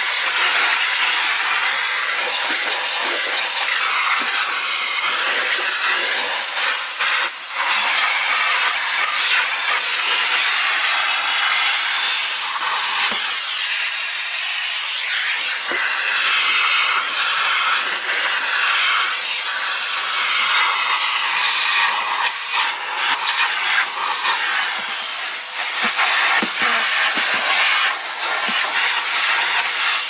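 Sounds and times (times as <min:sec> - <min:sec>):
grit rattling up vacuum hose: 0:00.0 - 0:30.0
vacuum cleaner sucking carpet: 0:00.0 - 0:30.0.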